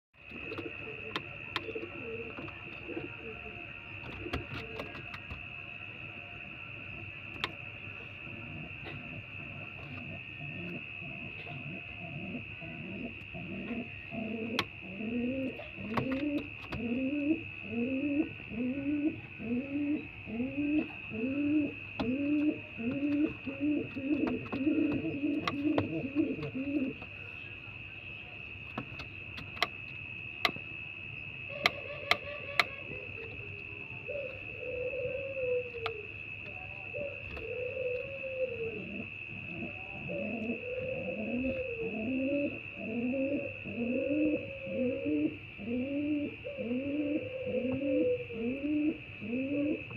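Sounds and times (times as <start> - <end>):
pigeon cooing: 0.2 - 5.4, 8.2 - 27.3, 31.5 - 49.9.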